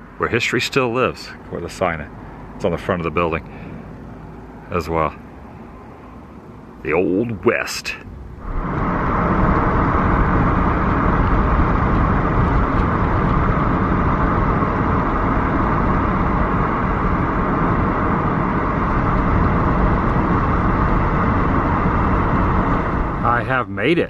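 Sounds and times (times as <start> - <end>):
car road and wind noise: 0.0 - 24.0.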